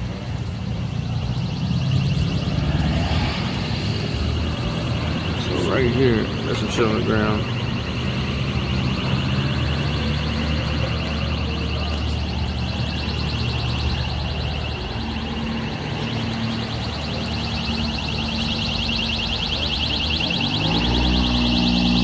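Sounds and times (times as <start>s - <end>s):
vehicle engine running: 0.0s - 22.0s
burglar alarm pulsing tone: 0.3s - 22.0s.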